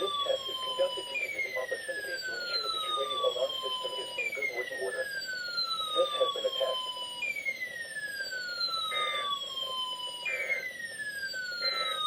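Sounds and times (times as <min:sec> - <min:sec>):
electronic siren-like alarm tone: 0:00.0 - 0:12.0.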